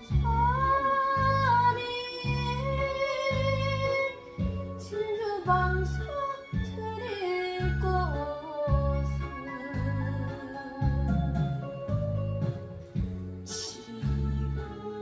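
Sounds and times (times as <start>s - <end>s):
pulsing bass: 0.0s - 14.7s.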